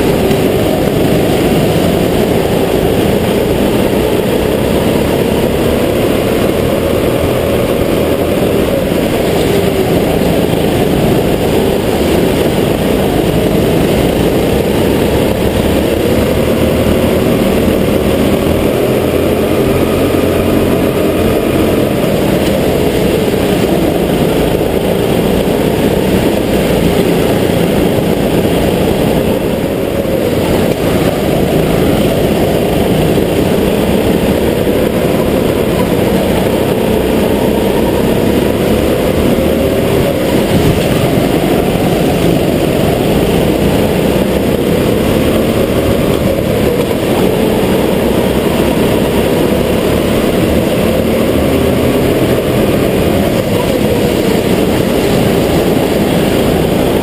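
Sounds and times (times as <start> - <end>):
go-kart engines revving: 0.0 - 57.0.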